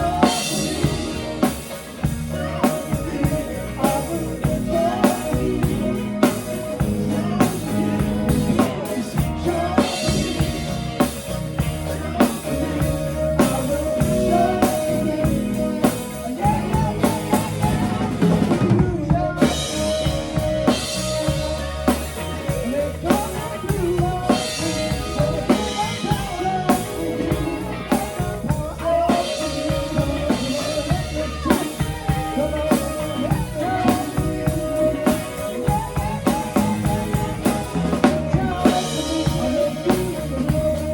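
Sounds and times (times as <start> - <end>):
bass: 0.0 - 40.9
drum kit beat: 0.0 - 40.9.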